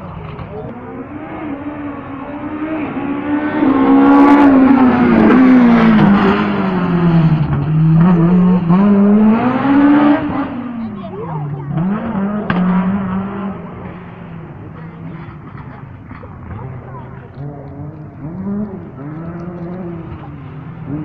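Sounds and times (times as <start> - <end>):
rally car passing at speed: 0.0 - 11.1, 11.7 - 21.0.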